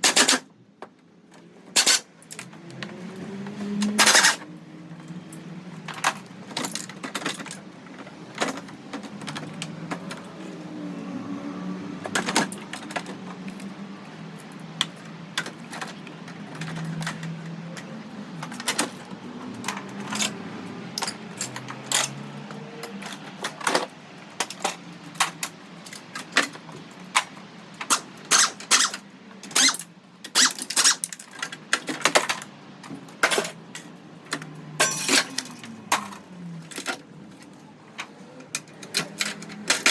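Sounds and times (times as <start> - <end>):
metal car parts clinking: 0.0 - 0.5, 1.6 - 2.6, 3.8 - 10.3, 14.3 - 39.9.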